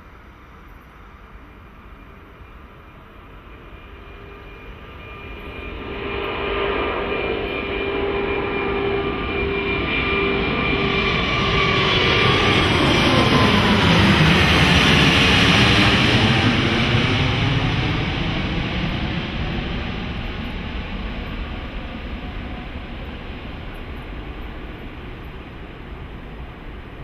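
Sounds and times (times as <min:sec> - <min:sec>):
jet airliner whine and roar: 0:00.0 - 0:27.0.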